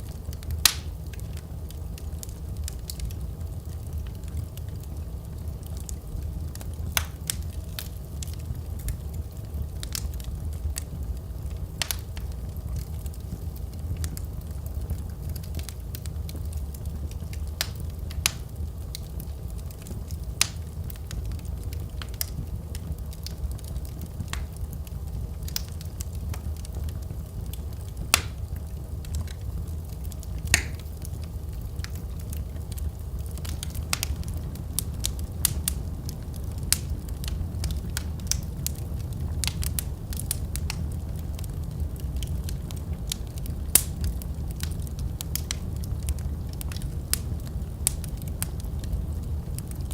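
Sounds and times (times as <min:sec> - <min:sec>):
low rumble of burning: 0:00.0 - 0:49.9
wood fire crackling and popping: 0:00.0 - 0:49.9.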